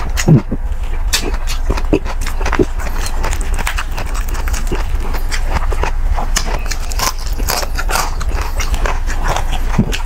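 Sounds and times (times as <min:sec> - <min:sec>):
crunching and chewing crispy pork skin: 0:00.0 - 0:10.0
steady low hum: 0:00.0 - 0:10.0.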